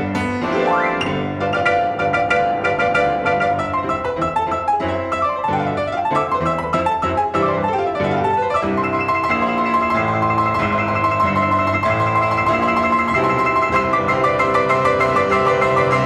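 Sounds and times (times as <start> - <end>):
grand piano played four-hands: 0.0 - 16.0.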